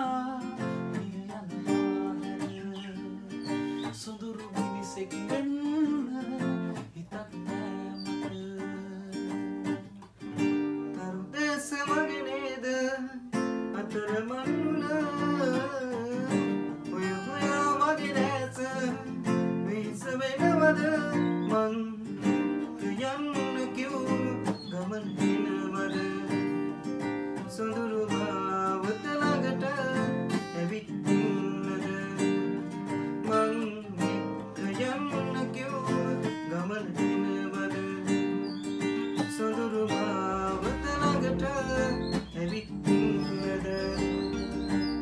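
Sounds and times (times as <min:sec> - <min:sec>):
man singing: 0:00.0 - 0:09.8, 0:10.9 - 0:45.0
acoustic guitars strumming: 0:00.0 - 0:45.0.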